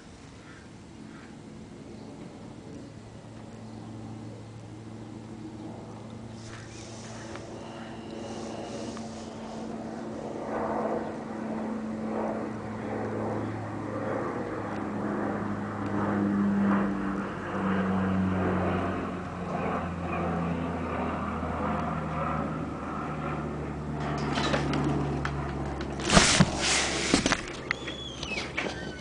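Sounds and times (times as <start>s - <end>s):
passing engine drone: 0.9s - 28.7s.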